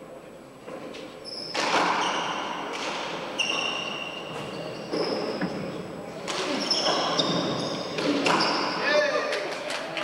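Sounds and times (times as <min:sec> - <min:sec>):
shoes squeaking on court floor: 0:00.7 - 0:09.0.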